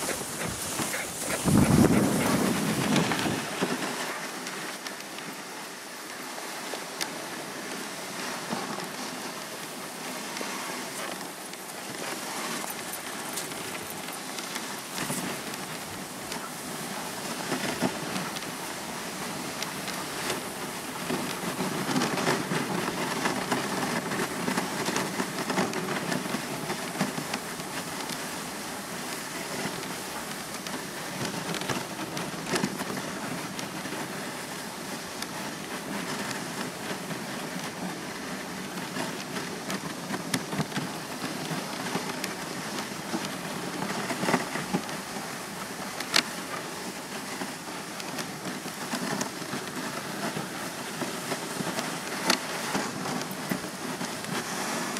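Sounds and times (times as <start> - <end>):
sled runners hissing on snow: 0.0 - 54.9.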